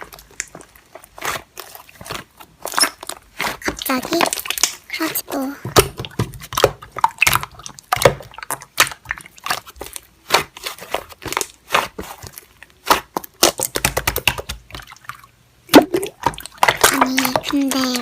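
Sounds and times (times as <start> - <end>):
slime squished by hand: 0.0 - 18.0.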